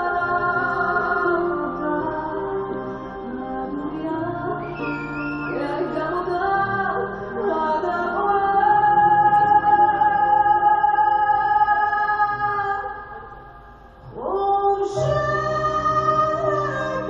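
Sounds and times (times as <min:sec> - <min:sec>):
woman singing: 0:00.0 - 0:13.4, 0:14.0 - 0:17.0
waltz music: 0:00.0 - 0:17.0.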